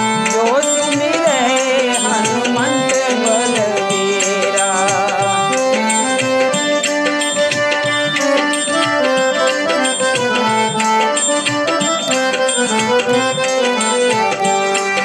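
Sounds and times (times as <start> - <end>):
harmonium melody: 0.0 - 15.0
tabla beat: 0.0 - 15.0.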